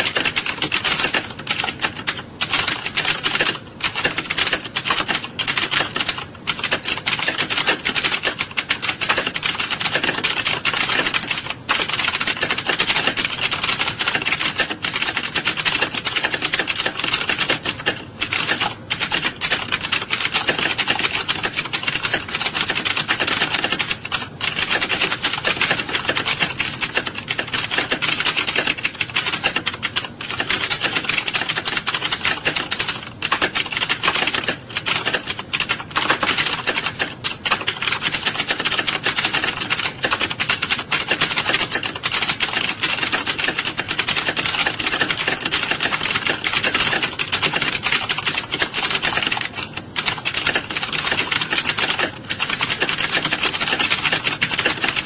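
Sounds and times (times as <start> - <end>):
many keyboards clattering: 0.0 - 55.0.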